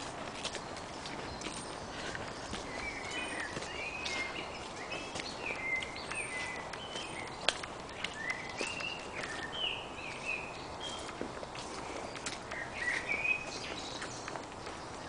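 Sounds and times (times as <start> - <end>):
footsteps on dirt path: 0.0 - 15.0
songbirds singing: 0.0 - 15.0.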